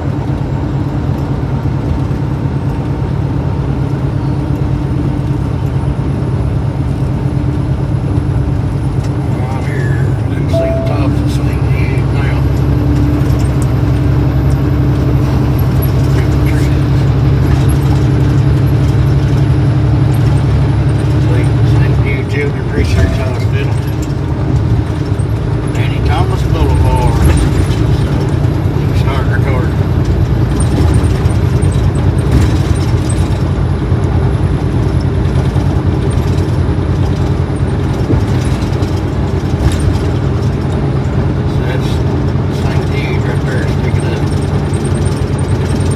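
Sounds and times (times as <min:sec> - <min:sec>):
car engine and tyres on road: 0:00.0 - 0:45.9.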